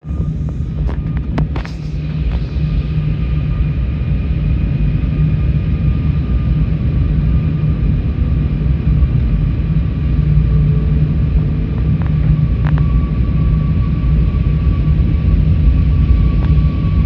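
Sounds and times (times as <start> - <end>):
engine and airflow rumble: 0.0 - 17.0
faint steady whine: 0.0 - 17.0.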